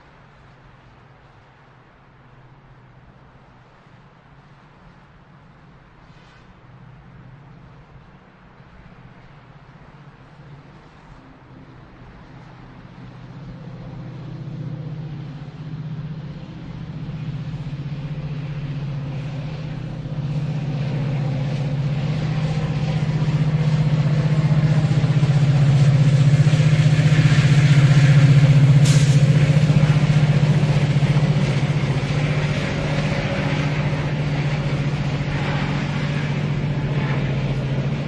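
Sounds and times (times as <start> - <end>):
train rumbling on bridge: 0.0 - 38.0.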